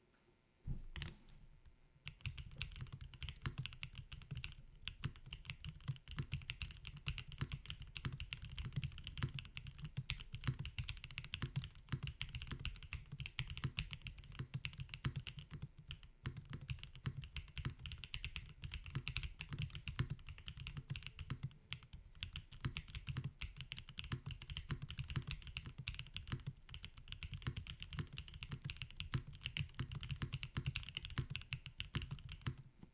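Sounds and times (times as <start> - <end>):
mechanical keyboard typing: 2.1 - 32.7.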